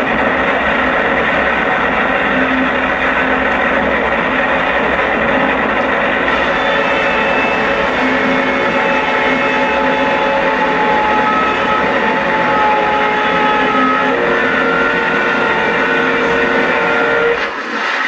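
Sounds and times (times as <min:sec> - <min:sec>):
noisy drone with held tones: 0:00.0 - 0:17.6.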